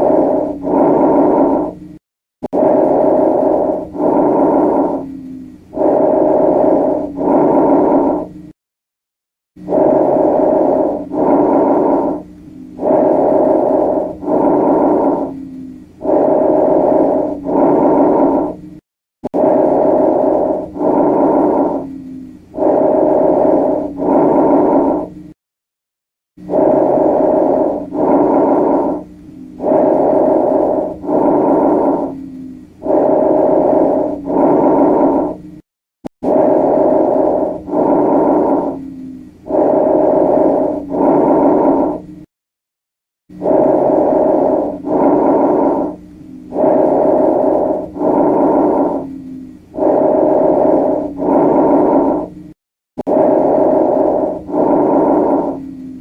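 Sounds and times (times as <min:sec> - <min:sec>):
breathing through a stethoscope: 0:00.0 - 0:08.6, 0:09.6 - 0:25.4, 0:26.4 - 0:35.6, 0:36.2 - 0:42.3, 0:43.3 - 0:56.0.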